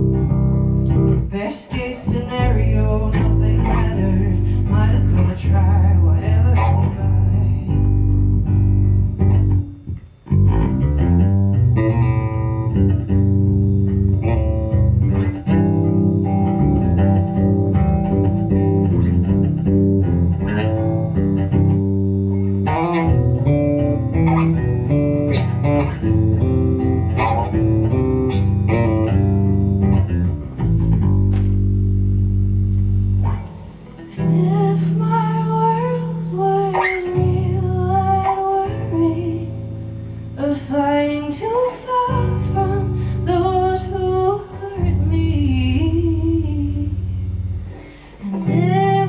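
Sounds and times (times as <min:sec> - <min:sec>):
bass guitar: 0:00.0 - 0:49.0
guitars playing: 0:00.0 - 0:49.0.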